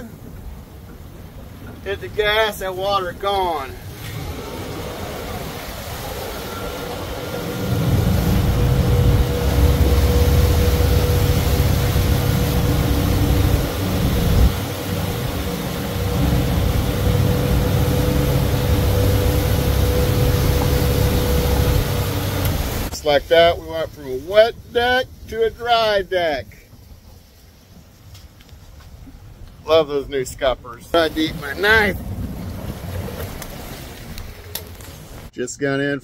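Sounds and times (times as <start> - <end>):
outboard motors rumbling: 0.0 - 28.1, 28.9 - 35.3
water rushing past hull: 0.0 - 35.3.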